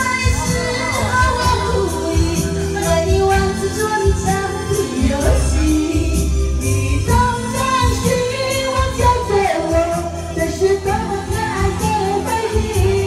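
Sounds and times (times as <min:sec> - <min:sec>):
karaoke backing track: 0:00.0 - 0:13.0
woman singing into a microphone: 0:00.0 - 0:13.0.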